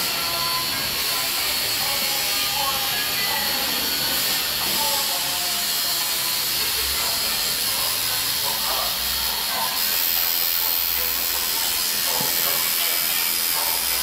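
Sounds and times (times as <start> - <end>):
tattoo machine buzzing: 0.0 - 14.0.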